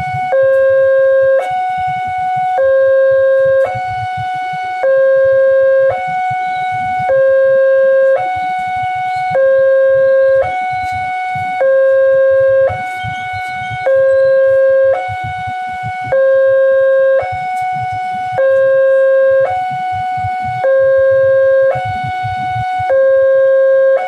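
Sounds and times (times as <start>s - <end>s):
two-tone level-crossing alarm: 0.0s - 24.0s.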